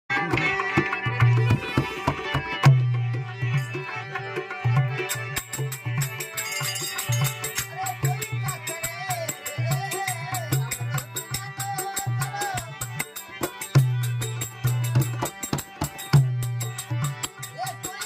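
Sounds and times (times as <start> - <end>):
rattling percussion: 0.1 - 18.0
hand drum beating: 0.2 - 3.8, 4.6 - 18.0
wavering melody: 0.3 - 18.0.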